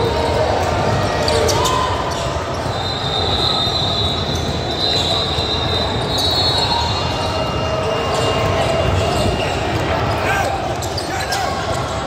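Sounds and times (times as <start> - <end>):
gym background noise: 0.0 - 12.0.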